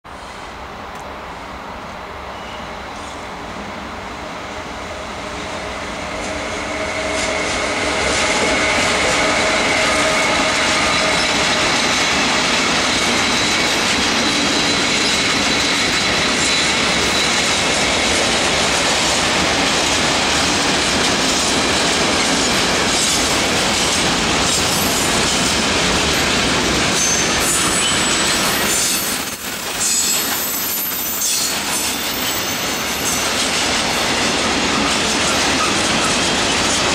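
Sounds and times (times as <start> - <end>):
freight train passing: 0.1 - 36.9.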